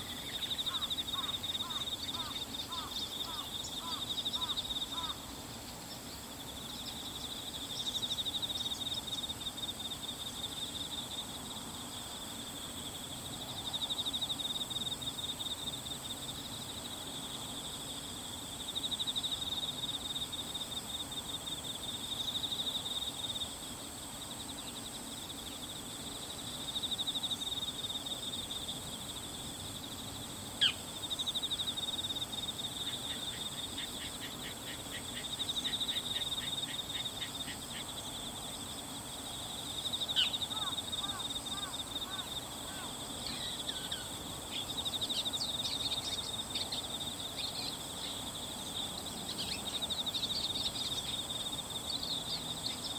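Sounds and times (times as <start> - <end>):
insects trilling in chorus: 0.0 - 52.9.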